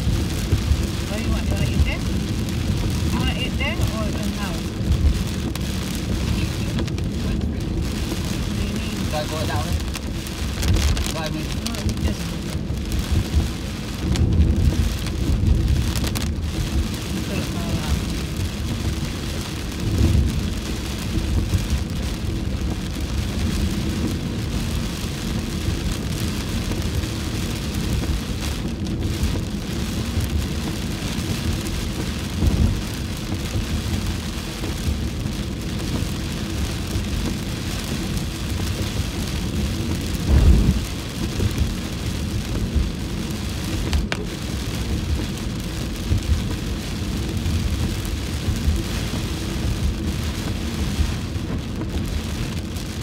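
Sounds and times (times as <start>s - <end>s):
car rumble: 0.0s - 53.0s
heavy rain on windshield: 0.0s - 53.0s.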